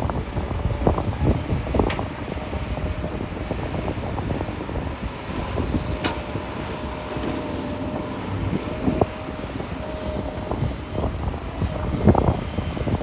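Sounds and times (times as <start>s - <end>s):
excavator engine rumble with whine: 0.0s - 13.0s.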